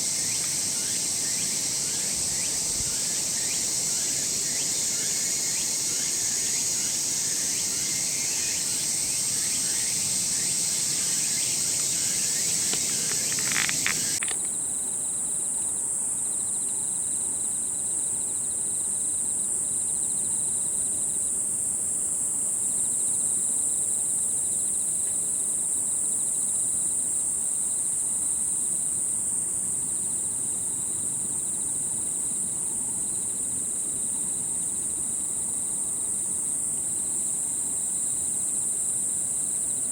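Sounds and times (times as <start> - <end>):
crickets chirping: 0.0 - 39.9
high insect trill: 0.0 - 39.9
lower insect trill: 0.0 - 39.9.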